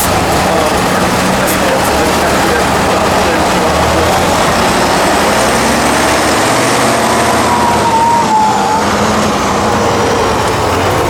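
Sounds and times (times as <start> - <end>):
high whine: 0.0 - 11.0
truck engine running hard: 0.0 - 11.0.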